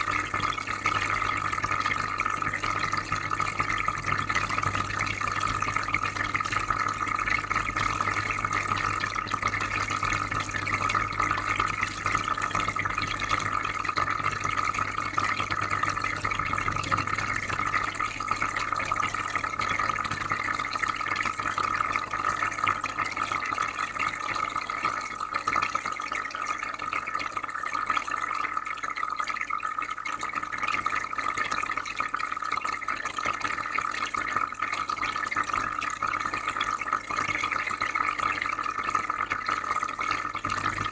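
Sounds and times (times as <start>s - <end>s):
trickling and bubbling water: 0.0s - 40.9s.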